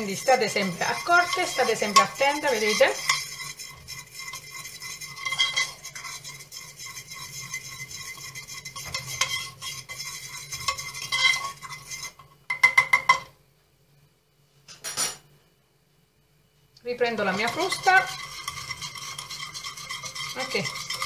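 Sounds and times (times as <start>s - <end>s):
fork scraping and clinking in pan: 0.0s - 13.3s, 17.1s - 21.0s.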